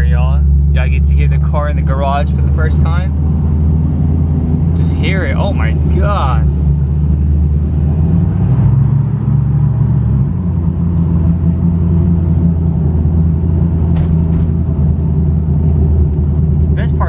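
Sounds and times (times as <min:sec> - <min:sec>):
car exhaust low rumble: 0:00.0 - 0:17.0.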